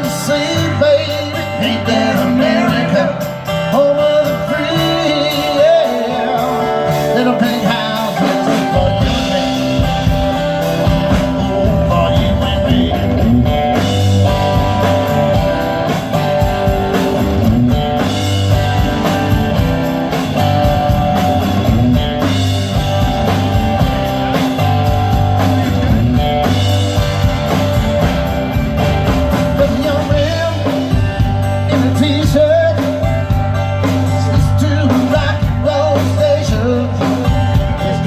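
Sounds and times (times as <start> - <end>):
rock band playing: 0.0 - 38.0.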